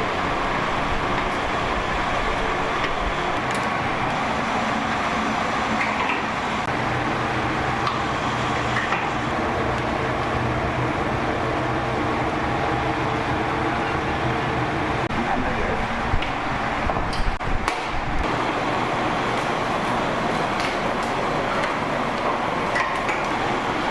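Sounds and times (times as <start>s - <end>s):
continuous rushing noise: 0.0s - 23.9s.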